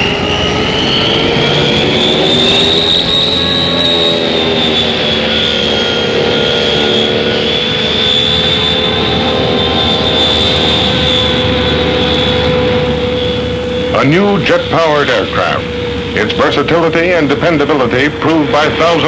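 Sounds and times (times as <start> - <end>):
low engine drone: 0.0 - 19.0
turboprop engines whining: 0.0 - 19.0.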